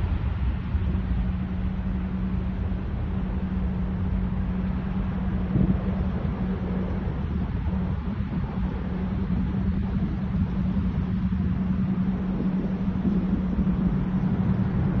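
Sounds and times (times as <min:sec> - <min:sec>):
jet engines during takeoff: 0:00.0 - 0:15.0.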